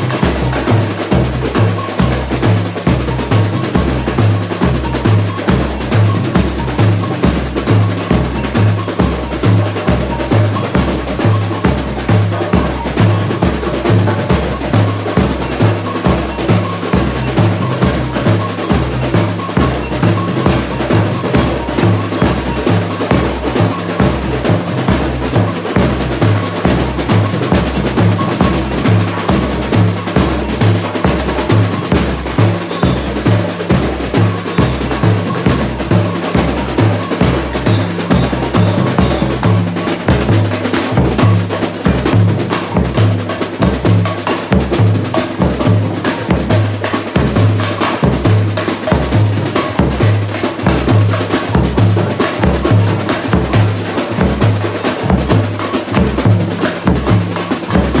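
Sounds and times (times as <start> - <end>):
deep bass drums: 0.0 - 58.0
snare drums rattling: 0.0 - 58.0.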